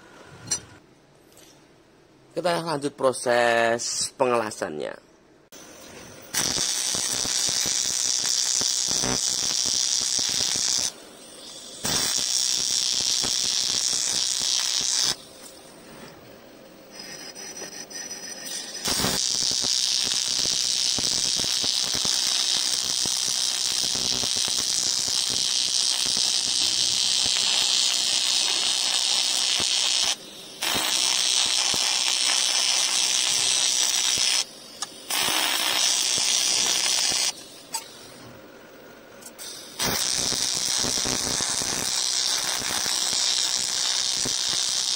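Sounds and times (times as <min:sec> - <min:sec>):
welding arc hissing: 0:05.6 - 0:15.7, 0:16.9 - 0:38.2, 0:39.3 - 0:44.9.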